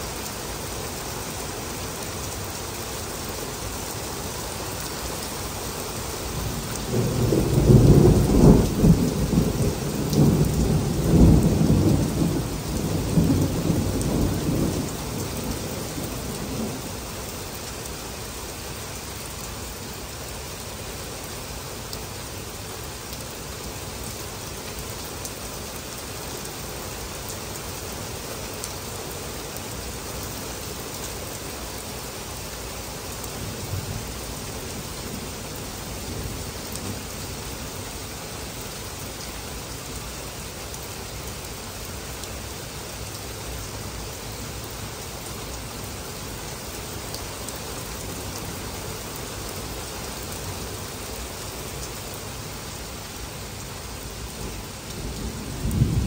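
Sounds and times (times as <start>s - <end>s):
heavy rain on grass and pavement: 0.0s - 56.0s.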